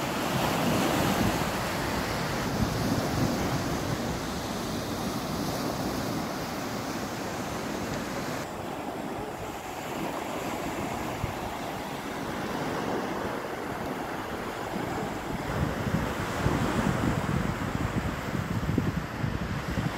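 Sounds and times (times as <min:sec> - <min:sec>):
surf washing up beach: 0:00.0 - 0:19.9
wind rumbling on microphone: 0:00.0 - 0:19.9.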